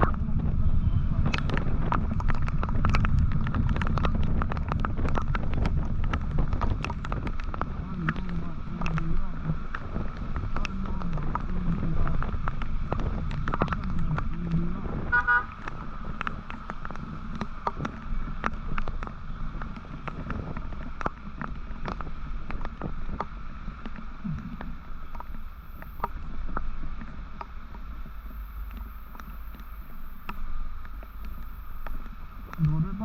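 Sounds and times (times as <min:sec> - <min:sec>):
engine rumble: 0:00.0 - 0:33.0
wind noise: 0:00.0 - 0:33.0.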